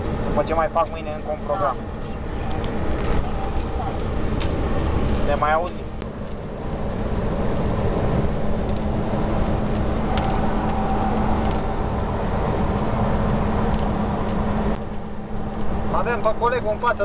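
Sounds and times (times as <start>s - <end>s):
road rumble: 0.0s - 17.0s
truck engine drone: 0.0s - 17.0s.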